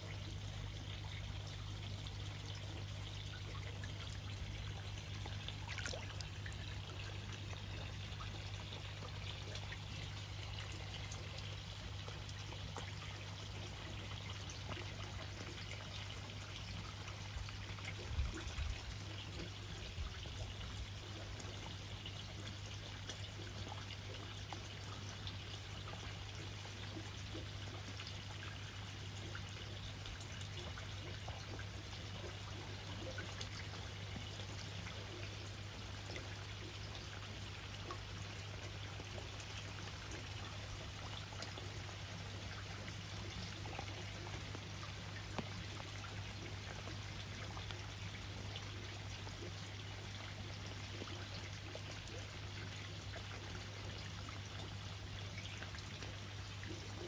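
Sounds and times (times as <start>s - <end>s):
constant low hum: 0.0s - 57.0s
water pouring and trickling: 0.0s - 57.0s.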